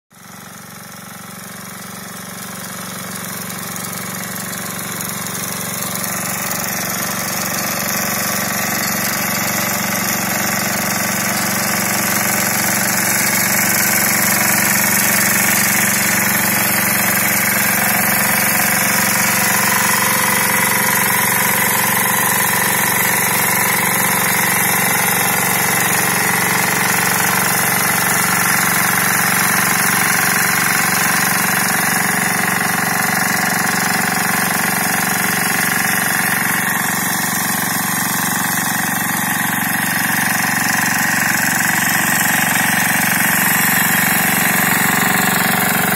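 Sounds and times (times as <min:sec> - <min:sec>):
tractor engine running: 0:00.1 - 0:45.9.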